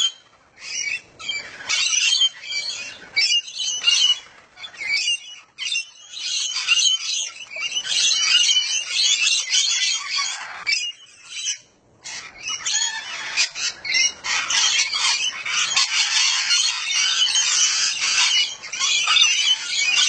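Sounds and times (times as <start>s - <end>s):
parrots squawking and chattering: 0.0s - 20.0s.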